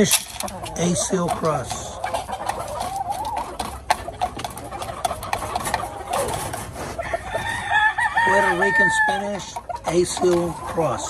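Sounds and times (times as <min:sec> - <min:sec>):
chickens clucking softly: 0:00.0 - 0:11.0.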